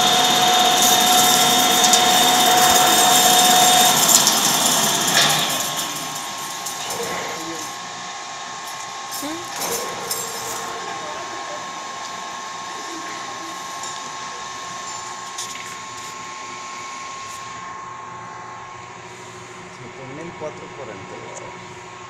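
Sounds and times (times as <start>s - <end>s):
metal lathe whirring: 0.0s - 18.0s
large fan humming: 0.0s - 22.0s.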